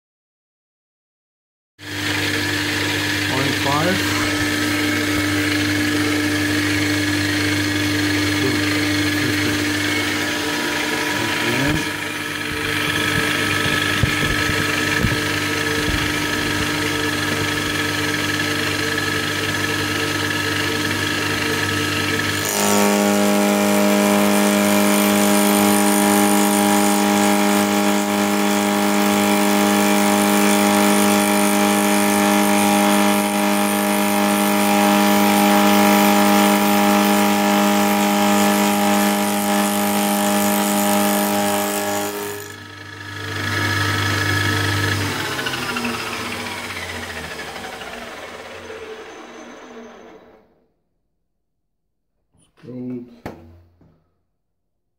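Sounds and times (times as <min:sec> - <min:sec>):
milling machine cutting steel: 0:01.8 - 0:50.4.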